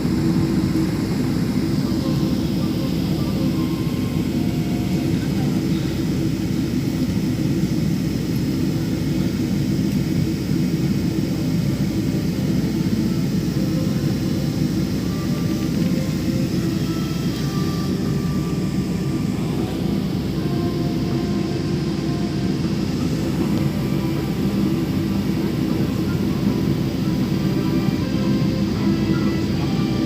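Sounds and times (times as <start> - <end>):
jet airliner cabin rumble: 0.0 - 30.0.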